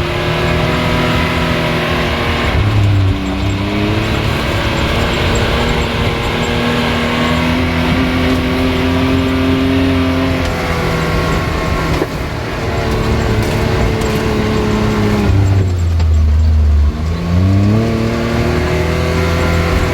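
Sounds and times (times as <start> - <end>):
off-road vehicle engine revving: 0.0 - 19.9.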